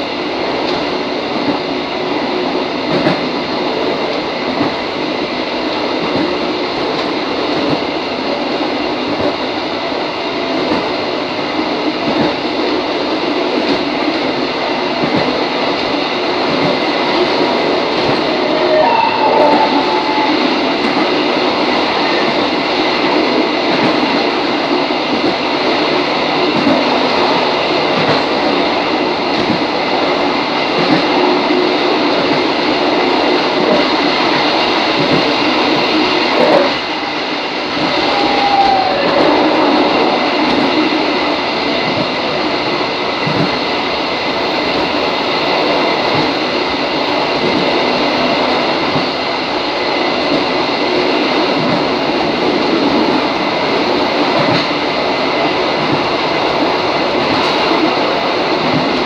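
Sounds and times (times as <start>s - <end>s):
railcar running on track: 0.0s - 59.0s.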